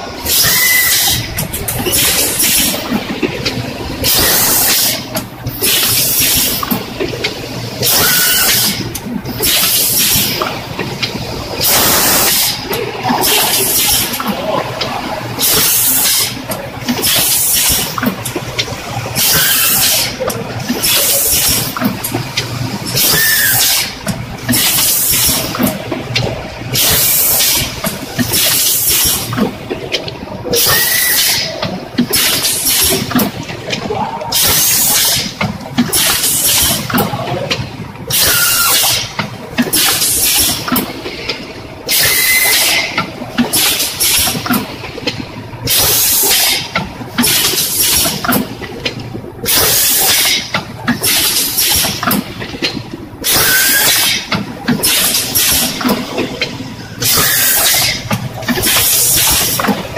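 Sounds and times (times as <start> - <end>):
machine clatter: 0.0 - 59.9.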